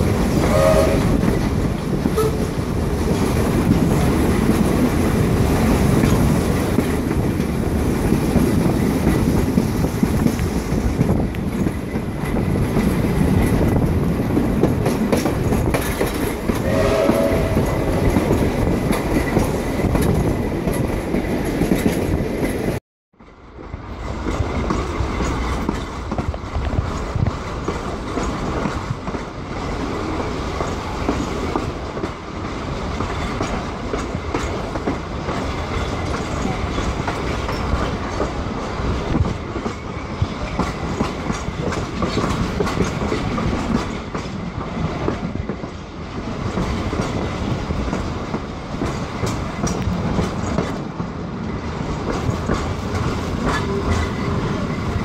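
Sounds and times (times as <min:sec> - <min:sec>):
wheels clickety-clack over joints: 0:00.0 - 0:22.8, 0:23.6 - 0:55.0
train wheels rumbling on rails: 0:00.0 - 0:55.0.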